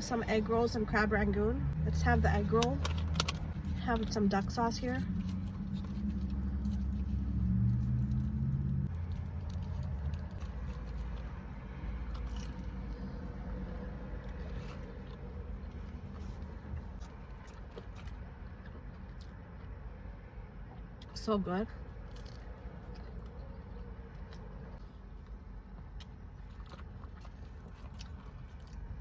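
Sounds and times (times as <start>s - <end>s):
low rumble: 0.0s - 29.0s
chewing and crunching: 2.1s - 29.0s.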